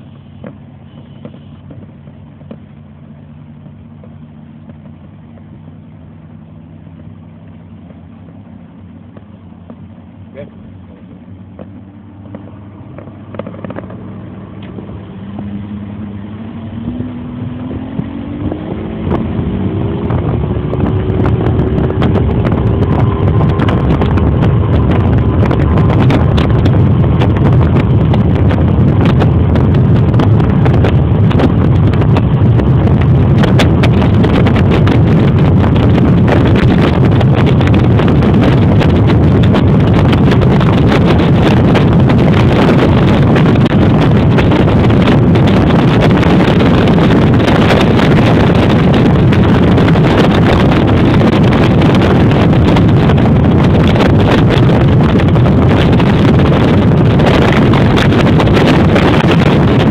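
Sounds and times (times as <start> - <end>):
outboard motor accelerating: 0.0 - 59.9
wind buffeting microphone: 0.0 - 59.9.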